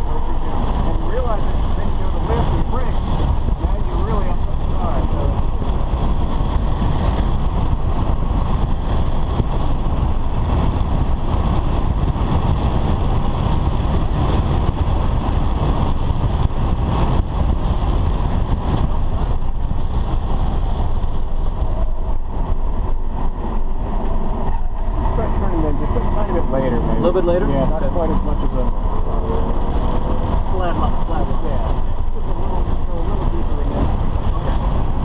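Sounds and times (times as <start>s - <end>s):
car engine: 0.0s - 35.0s
wind noise: 0.0s - 35.0s.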